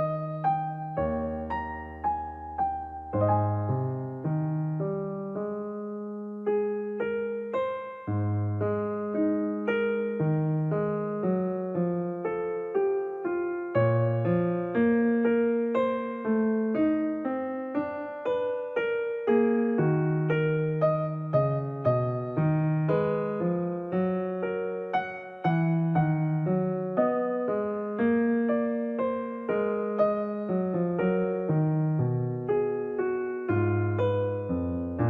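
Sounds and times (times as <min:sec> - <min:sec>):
gentle piano music: 0:00.0 - 0:35.0.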